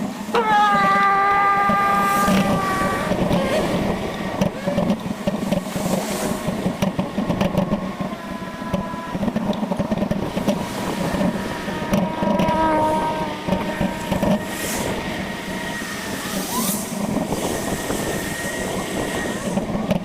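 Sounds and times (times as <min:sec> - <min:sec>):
rumbling road noise: 0:00.0 - 0:20.0
wind buffeting microphone: 0:01.2 - 0:20.0.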